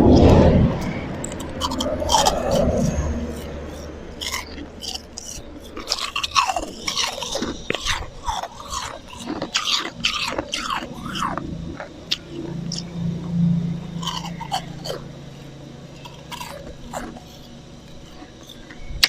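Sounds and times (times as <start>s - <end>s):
chewing and crunching ice: 0.0s - 19.0s.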